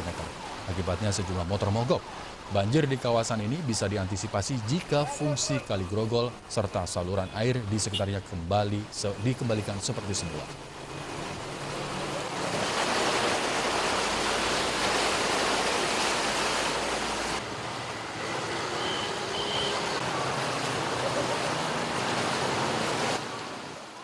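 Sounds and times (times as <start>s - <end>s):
water rushing and splashing: 0.0s - 24.0s.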